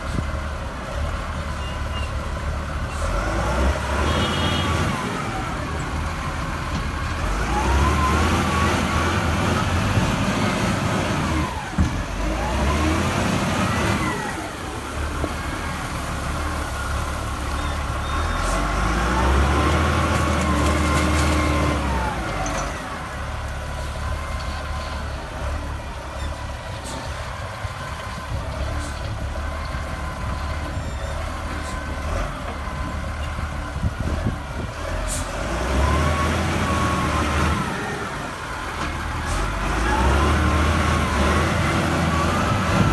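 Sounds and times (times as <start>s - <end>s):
wheel loader diesel engine revving: 0.0s - 42.9s.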